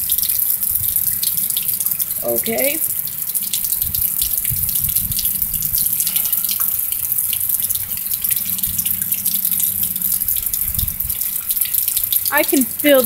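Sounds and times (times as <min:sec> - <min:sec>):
drops splattering and dripping: 0:00.0 - 0:13.0
heavy rain pouring: 0:00.0 - 0:13.0.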